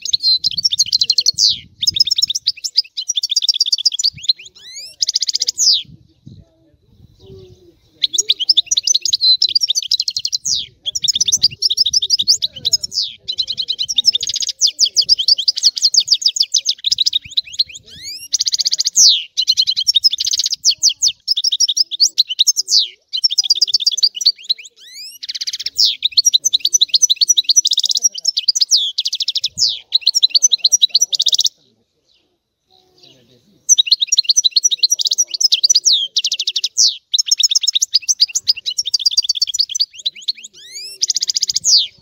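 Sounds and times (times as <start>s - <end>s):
finch singing twittering song: 0.0s - 42.0s.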